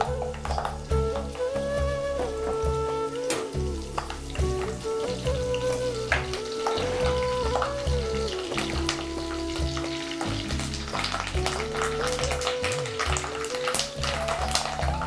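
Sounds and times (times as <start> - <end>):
instrumental background music: 0.0 - 15.0
oil sizzling in a pan: 0.0 - 15.0.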